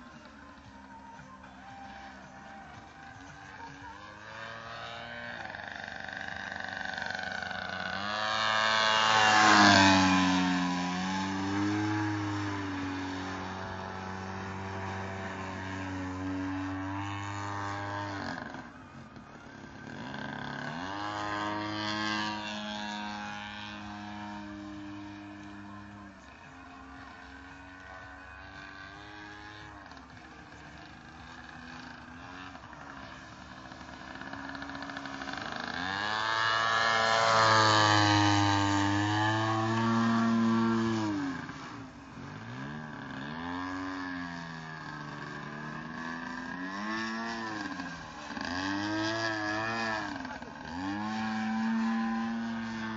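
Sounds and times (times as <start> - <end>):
model plane engine: 0.0 - 52.9.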